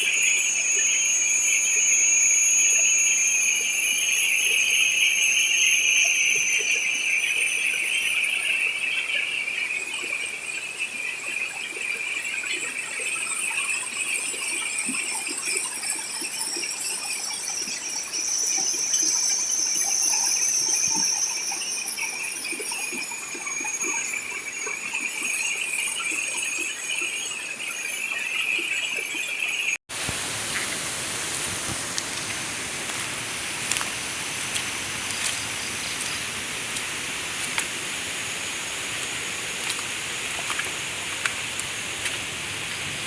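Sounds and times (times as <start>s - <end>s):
insect chorus buzzing: 0.0s - 29.8s, 30.5s - 42.3s.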